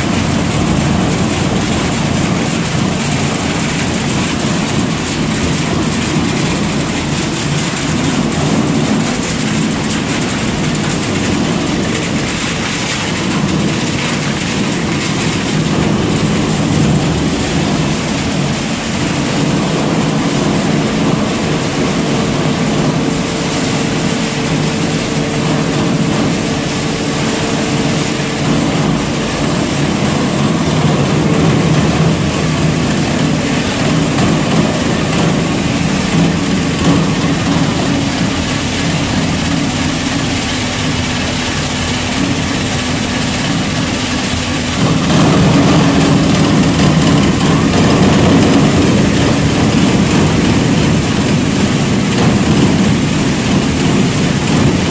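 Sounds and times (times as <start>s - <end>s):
shredder machine drone and clatter: 0.0s - 54.9s.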